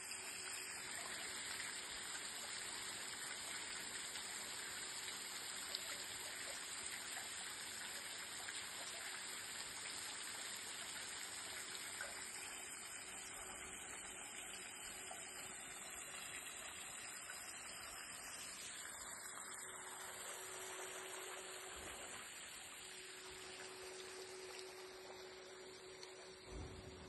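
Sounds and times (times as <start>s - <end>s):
fountain water splashing: 0.0s - 27.0s.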